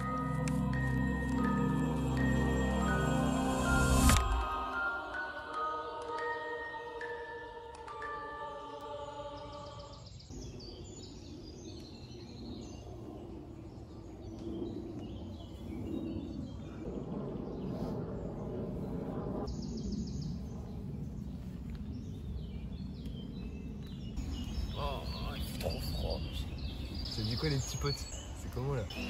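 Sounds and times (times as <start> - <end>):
birds chirping and trilling: 0.0 - 29.0.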